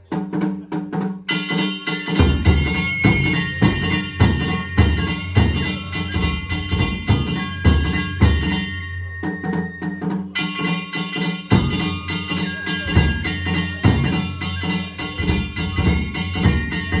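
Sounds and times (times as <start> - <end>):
taiko drums beating: 0.0 - 17.0
hand gongs ringing: 1.3 - 17.0.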